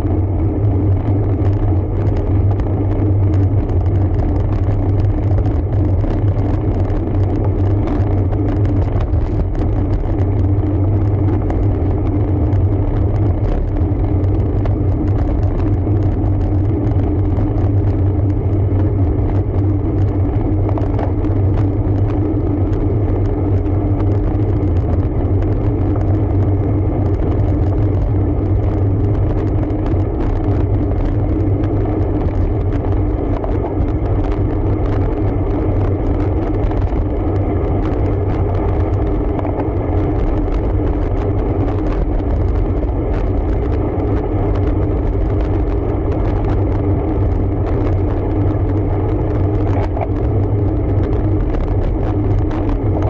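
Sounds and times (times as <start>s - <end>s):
road bike tyre and wind noise: 0.0s - 53.0s.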